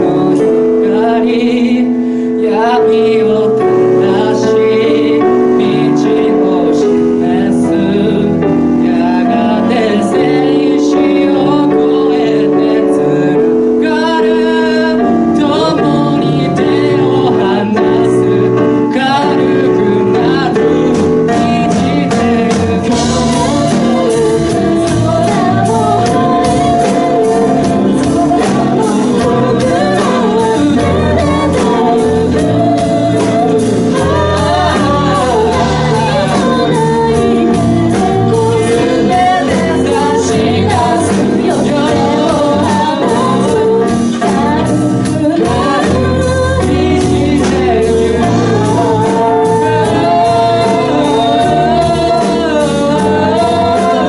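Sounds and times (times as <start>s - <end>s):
keyboard: 0.0s - 54.0s
live pop band music: 0.0s - 54.0s
people singing: 0.0s - 54.0s.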